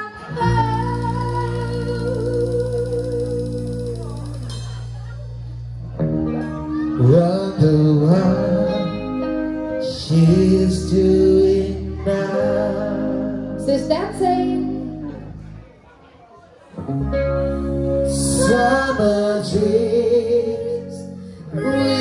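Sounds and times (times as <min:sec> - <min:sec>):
person singing: 0:00.0 - 0:04.8, 0:06.4 - 0:15.2, 0:17.5 - 0:22.0
live band playing: 0:00.0 - 0:15.6, 0:16.7 - 0:22.0.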